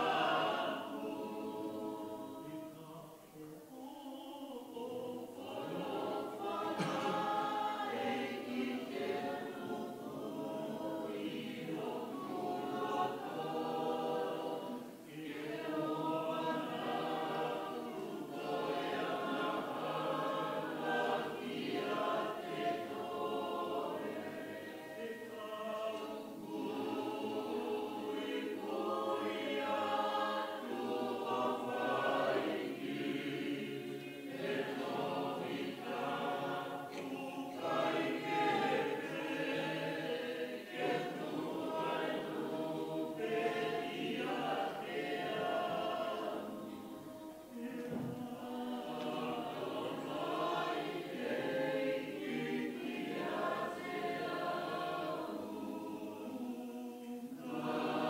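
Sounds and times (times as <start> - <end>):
church choir singing a hymn: 0.0 - 58.0.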